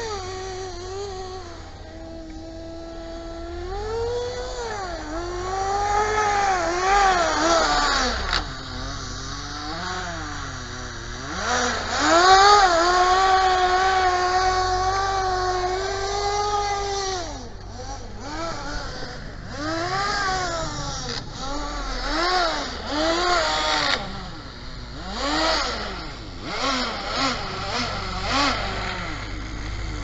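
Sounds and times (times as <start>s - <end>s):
small nitro engine revving: 0.0s - 30.0s.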